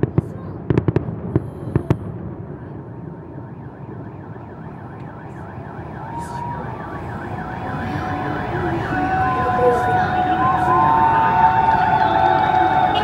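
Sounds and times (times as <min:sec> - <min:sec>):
low city hum: 0:00.0 - 0:13.0.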